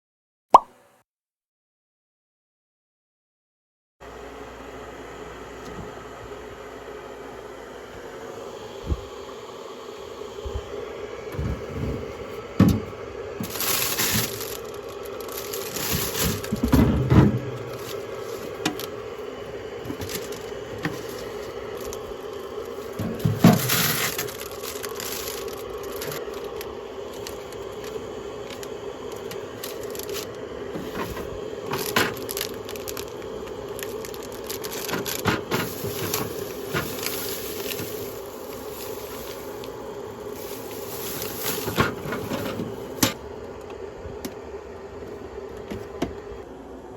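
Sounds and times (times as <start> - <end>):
steady hum: 4.0 - 46.9.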